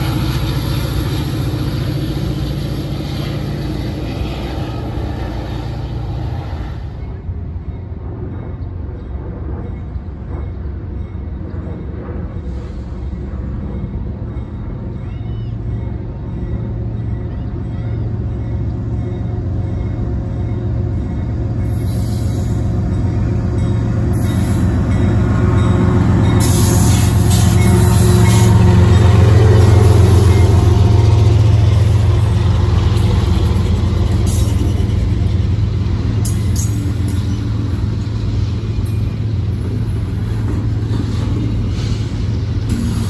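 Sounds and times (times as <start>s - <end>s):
diesel locomotive engines rumbling: 0.0s - 43.0s.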